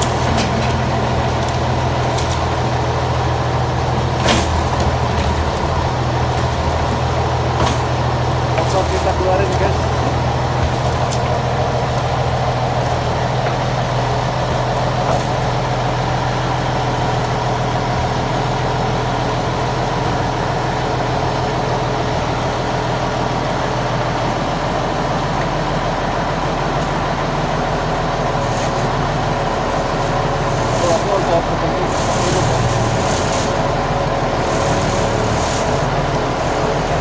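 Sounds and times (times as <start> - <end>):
pellet machine running: 0.0 - 20.2, 26.3 - 37.0.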